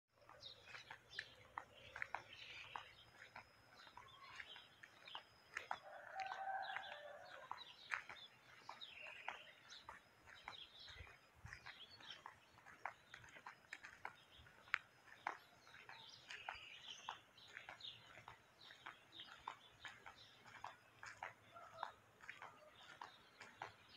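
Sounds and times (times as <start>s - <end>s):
faint birds chirping: 0.1s - 23.9s.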